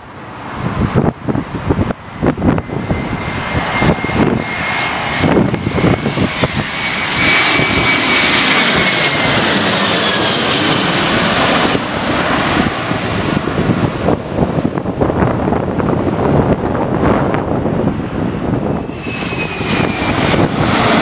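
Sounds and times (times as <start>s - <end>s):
jet airliner passing overhead: 0.0s - 21.0s.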